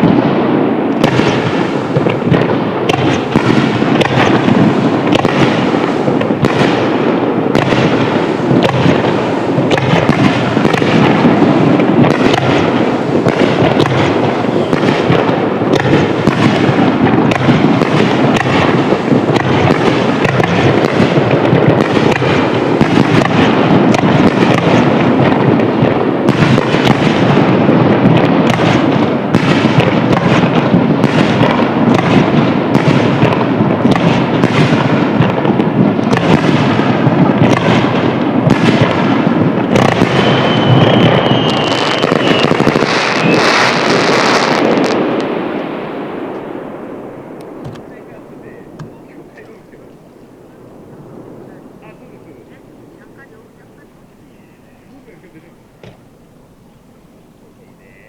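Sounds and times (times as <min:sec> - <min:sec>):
fireworks bangs: 0:00.0 - 0:58.0.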